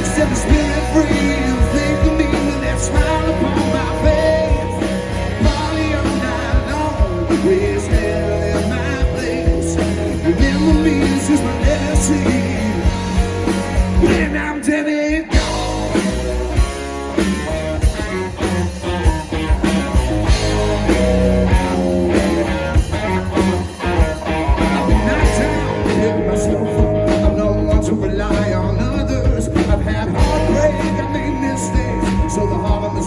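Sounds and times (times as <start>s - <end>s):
country band playing: 0.0s - 33.0s
drums keeping a beat: 0.0s - 33.0s
guitar: 0.0s - 33.0s.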